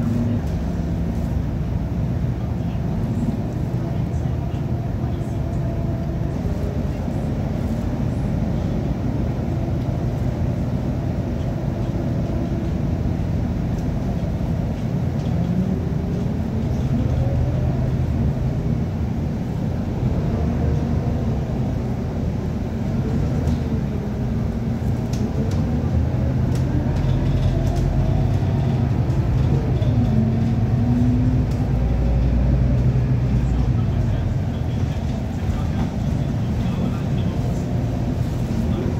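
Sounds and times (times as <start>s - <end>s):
bus engine and gearbox: 0.0s - 38.9s.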